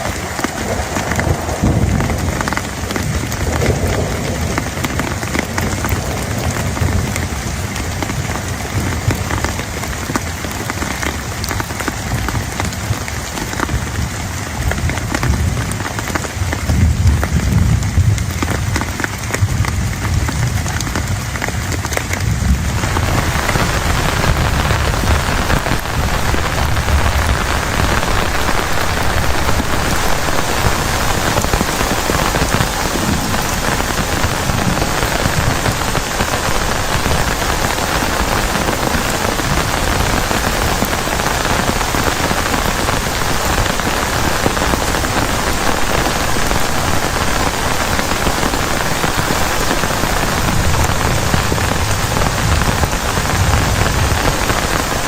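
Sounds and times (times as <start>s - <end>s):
heavy rain on a plastic tarp: 0.0s - 55.0s.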